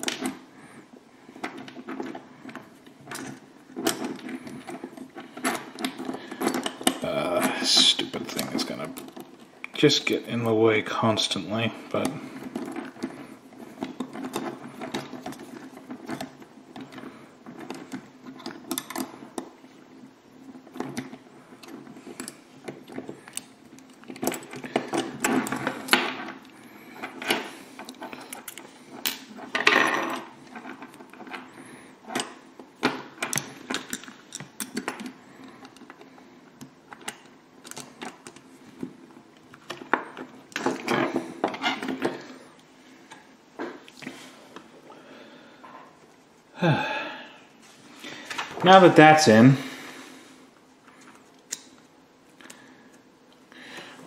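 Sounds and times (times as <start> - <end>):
plastic parts knocking and rustling: 0.0 - 10.2, 11.1 - 44.7.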